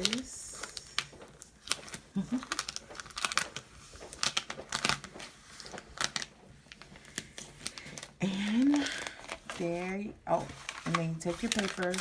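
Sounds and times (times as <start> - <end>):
transfer tape crinkling and crackling: 0.0 - 12.0.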